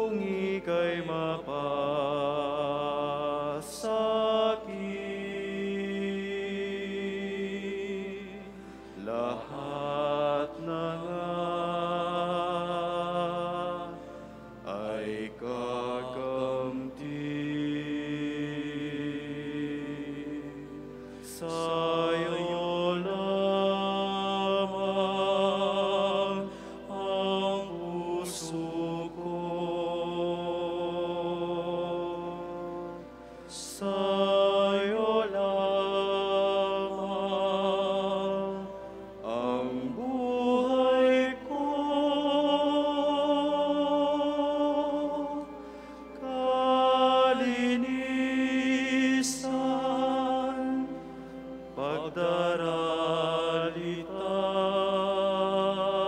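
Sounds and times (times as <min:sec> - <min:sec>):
chant-like sacred music: 0:00.0 - 0:56.0.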